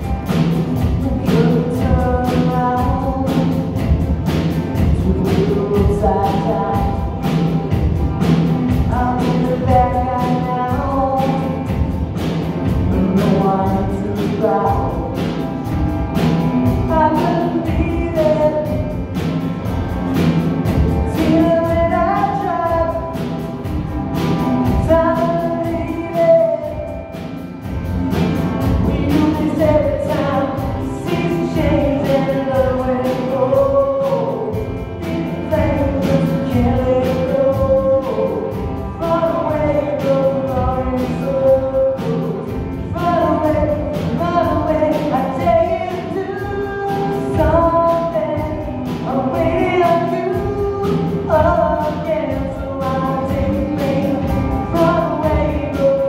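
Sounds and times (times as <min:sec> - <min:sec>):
drum kit beat: 0:00.0 - 0:56.0
guitar: 0:00.0 - 0:56.0
keyboard: 0:00.0 - 0:56.0.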